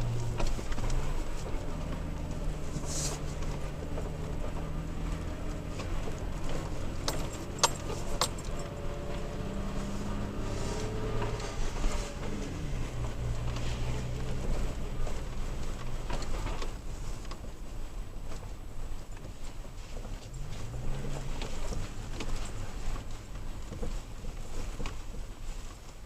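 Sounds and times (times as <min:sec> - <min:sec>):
truck engine running: 0:00.0 - 0:19.0, 0:19.8 - 0:25.2.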